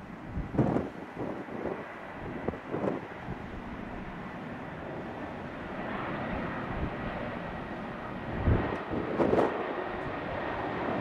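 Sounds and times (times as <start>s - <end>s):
distant jet engines rushing: 0.0s - 11.0s
wind buffeting microphone: 0.0s - 11.0s.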